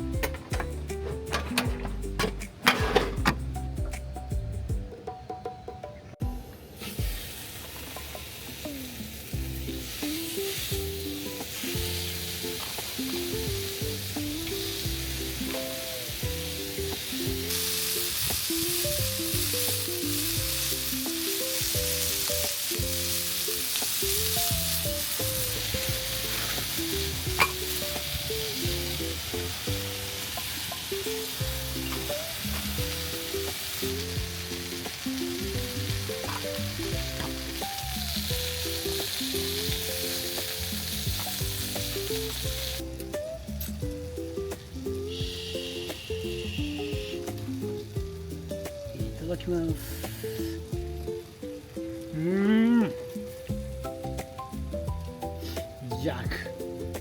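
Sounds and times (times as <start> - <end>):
instrumental background music: 0.0 - 57.0
food sizzling in a pan: 6.6 - 57.0.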